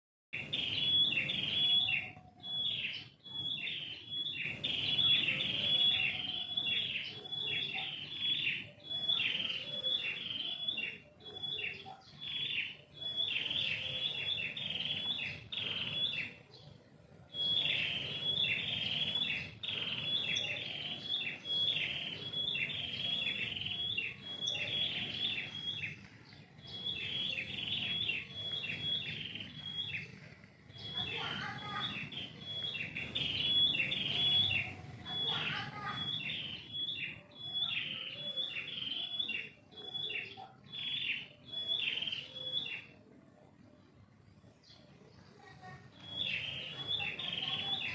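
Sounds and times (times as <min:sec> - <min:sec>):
songbirds chirping: 0:00.4 - 0:47.9.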